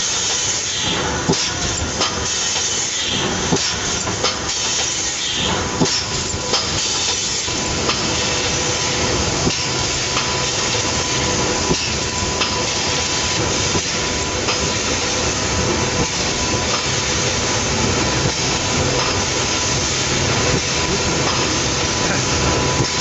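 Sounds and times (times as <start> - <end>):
machine running with thin whine: 0.0 - 23.0.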